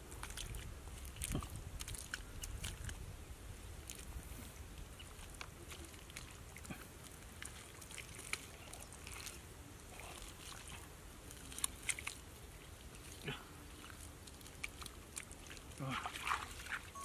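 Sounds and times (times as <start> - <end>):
hands squelching in wet mud: 0.0 - 17.0.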